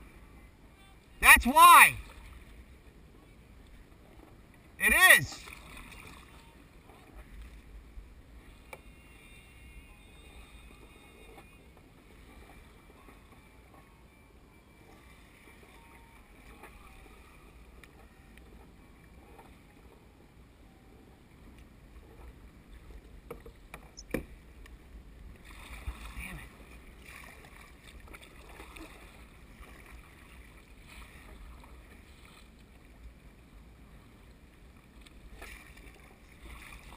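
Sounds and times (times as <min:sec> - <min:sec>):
water lapping against hull: 0:01.4 - 0:36.9.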